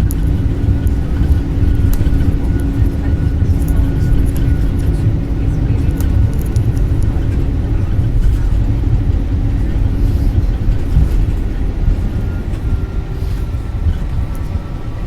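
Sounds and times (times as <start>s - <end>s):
continuous hum: 0.0s - 15.0s
faint cabin rattles: 0.0s - 15.0s
jet engine rumble: 0.0s - 15.0s.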